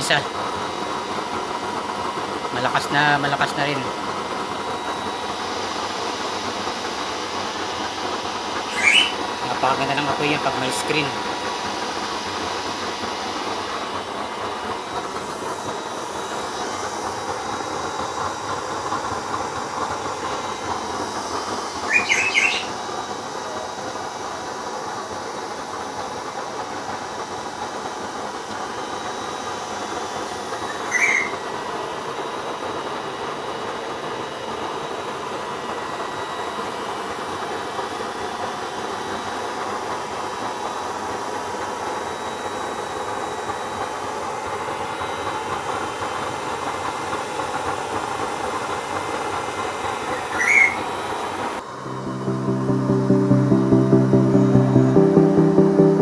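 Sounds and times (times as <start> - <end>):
faint steady whine: 0.0 - 46.7, 49.7 - 56.0.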